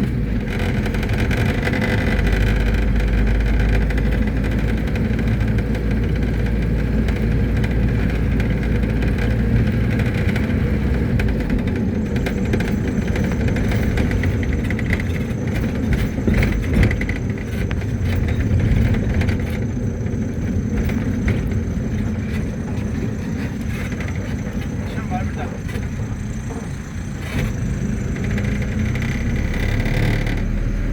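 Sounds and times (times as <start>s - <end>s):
knocks and rattles: 0.0s - 30.8s
minibus engine and road rumble: 0.0s - 30.9s.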